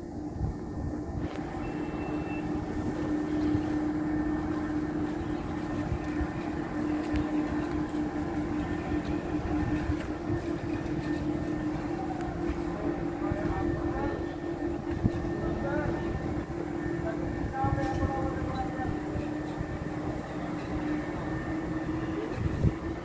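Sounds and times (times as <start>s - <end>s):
heavy diesel engine droning: 0.0s - 23.0s.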